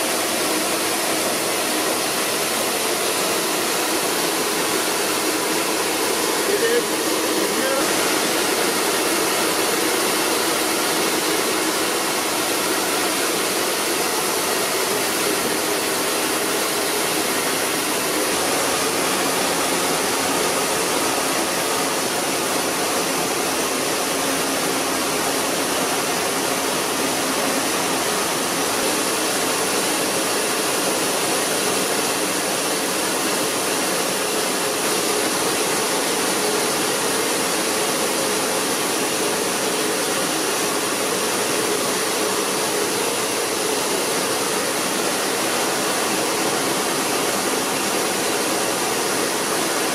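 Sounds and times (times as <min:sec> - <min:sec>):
rice mill machinery rushing: 0:00.0 - 0:49.9.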